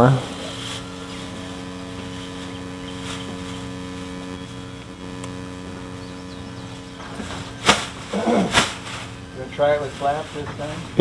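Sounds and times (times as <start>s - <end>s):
distant model plane motor drone: 0.0s - 11.0s.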